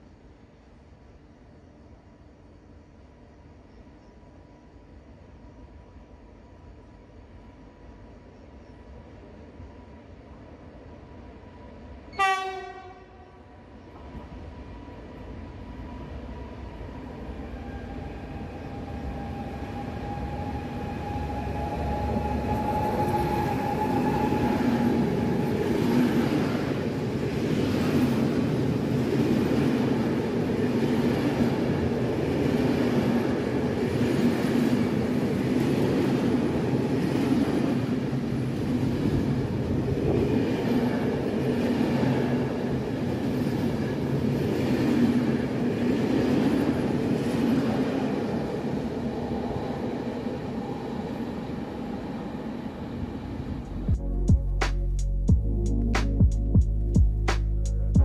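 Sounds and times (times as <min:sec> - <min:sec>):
thin whine of locomotive: 0:00.0 - 0:53.9
freight train passing: 0:00.0 - 0:58.0.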